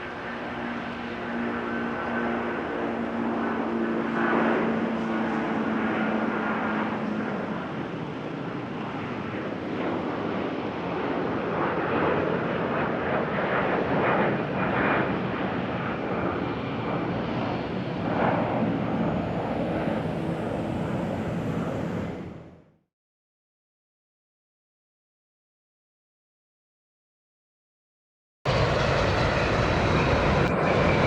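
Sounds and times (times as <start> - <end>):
jet engines running: 0.0 - 22.8, 28.5 - 31.0.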